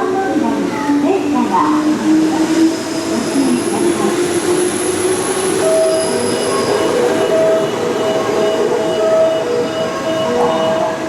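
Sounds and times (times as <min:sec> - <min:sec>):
rail and wheel noise: 0:00.0 - 0:11.0
train whining: 0:00.0 - 0:11.0
electric train running: 0:00.4 - 0:11.0.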